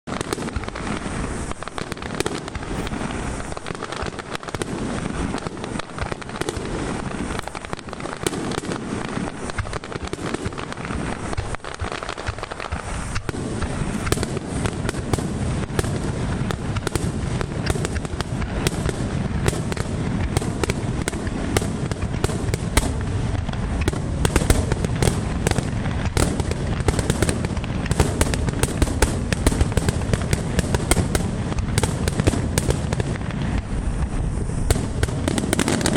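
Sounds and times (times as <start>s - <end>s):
fireworks booming and crackling: 0.0s - 35.9s.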